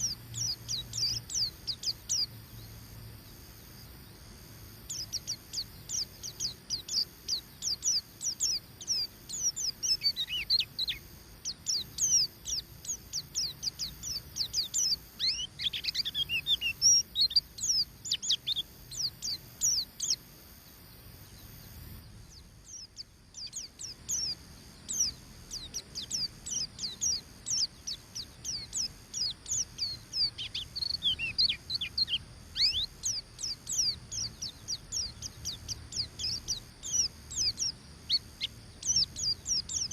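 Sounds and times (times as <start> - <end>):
bird chirping rapid chatter: 0.0 - 20.3, 21.0 - 39.9.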